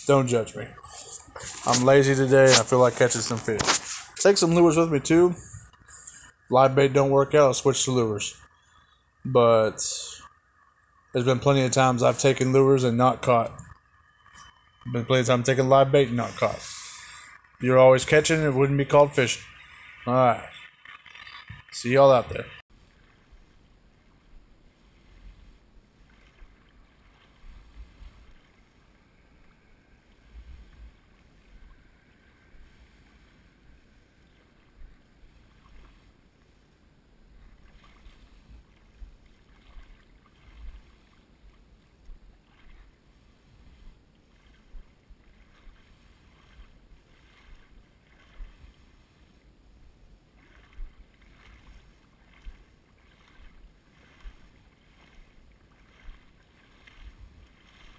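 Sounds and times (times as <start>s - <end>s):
water sloshing and splashing: 0.0s - 57.9s.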